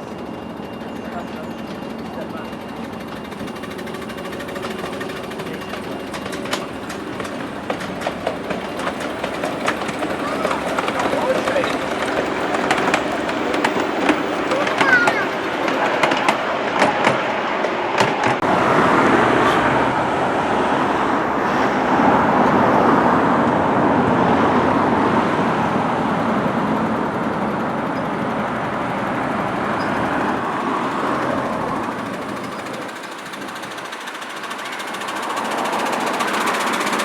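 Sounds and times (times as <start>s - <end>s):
miniature train running: 0.0s - 19.8s, 22.0s - 37.0s.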